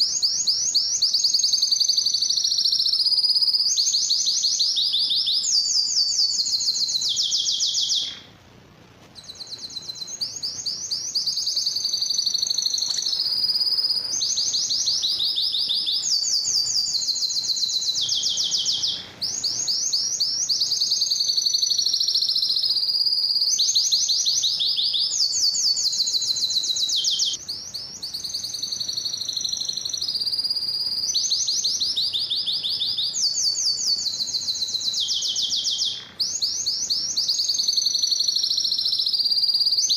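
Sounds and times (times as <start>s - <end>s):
canary singing trills: 0.0s - 8.4s, 9.1s - 39.9s.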